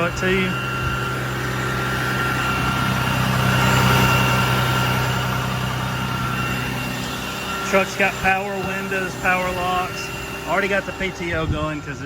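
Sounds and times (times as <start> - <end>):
faint steady whine: 0.0 - 12.0
truck engine idling: 0.0 - 12.0.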